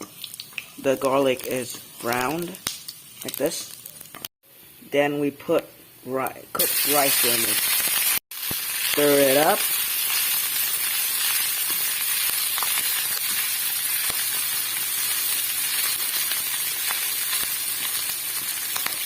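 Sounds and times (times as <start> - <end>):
rice frying in oil sizzling: 0.0 - 4.3, 6.6 - 19.0.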